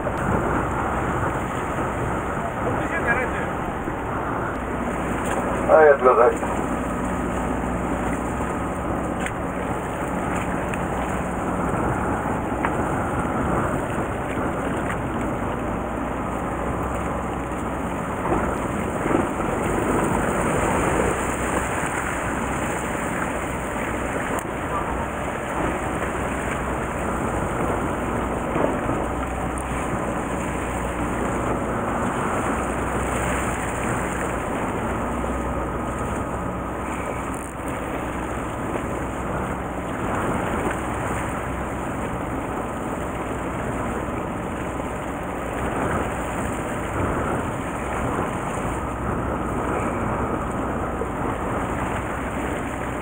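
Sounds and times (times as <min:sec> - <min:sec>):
boat engine running low: 0:00.0 - 0:53.0
water washing along hull: 0:00.0 - 0:53.0.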